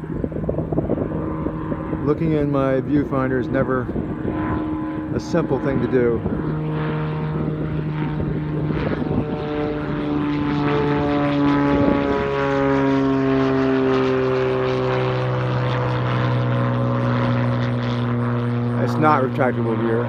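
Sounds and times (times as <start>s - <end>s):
propeller aircraft engine running: 0.0s - 20.0s.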